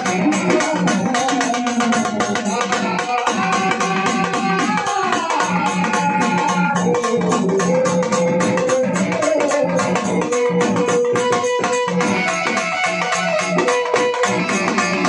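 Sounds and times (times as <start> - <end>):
fast frame drum beats: 0.0 - 15.0.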